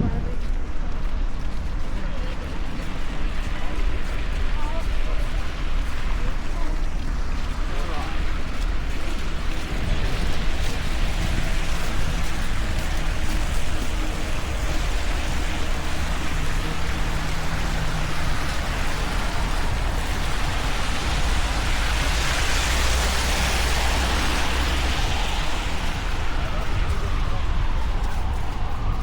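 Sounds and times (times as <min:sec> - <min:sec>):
low traffic rumble: 0:00.0 - 0:29.0
tyres hissing on wet road: 0:00.6 - 0:29.0.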